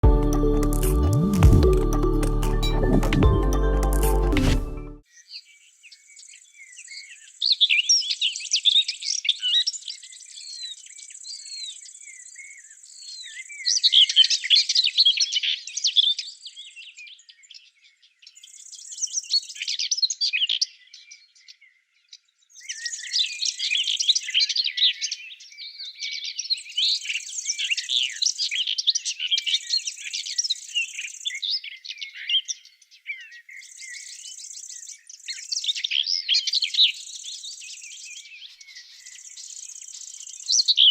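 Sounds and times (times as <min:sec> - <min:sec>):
songbirds chirping and whistling: 0:05.1 - 0:40.9.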